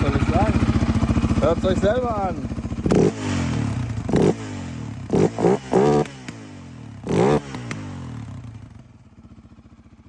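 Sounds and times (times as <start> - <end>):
engine revving and idling: 0.0 - 9.6.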